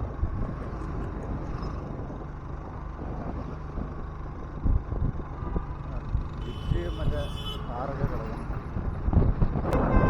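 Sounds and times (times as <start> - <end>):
wind buffeting microphone: 0.0 - 7.2, 7.9 - 10.0
vehicle engine and road rumble: 0.0 - 10.0.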